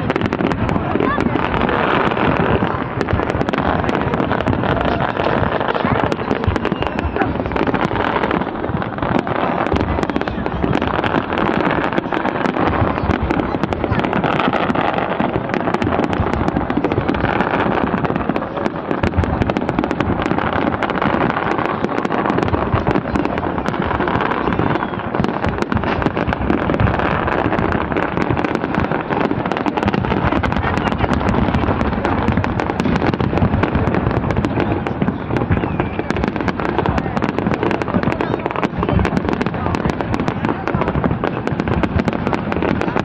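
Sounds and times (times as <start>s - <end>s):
crowd voices: 0.0s - 43.0s
fireworks bangs and crackles: 0.0s - 43.0s.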